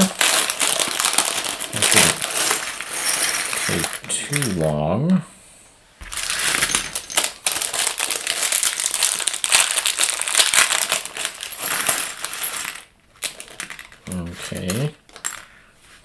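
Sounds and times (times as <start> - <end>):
plastic toy bricks clattering: 0.0 - 4.6, 6.1 - 15.5.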